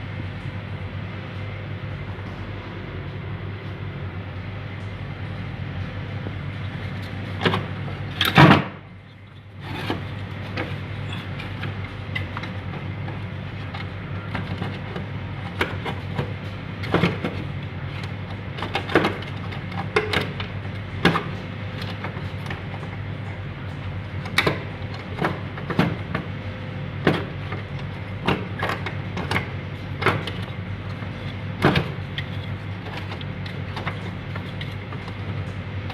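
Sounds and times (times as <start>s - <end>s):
refrigerator humming: 0.0s - 35.9s.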